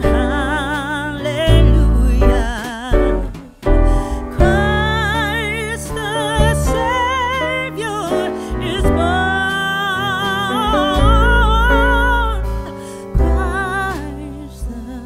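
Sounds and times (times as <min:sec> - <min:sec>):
low bass: 0:00.0 - 0:15.0
piano: 0:00.0 - 0:15.0
slow melody with vibrato: 0:00.0 - 0:15.0.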